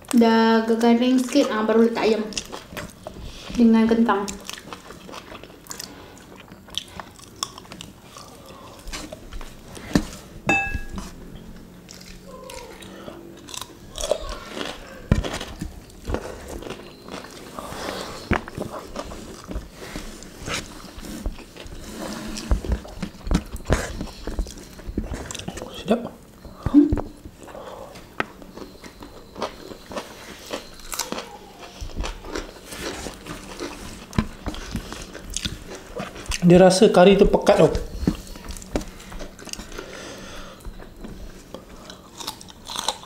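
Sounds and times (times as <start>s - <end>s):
people chewing food: 0.0s - 43.0s.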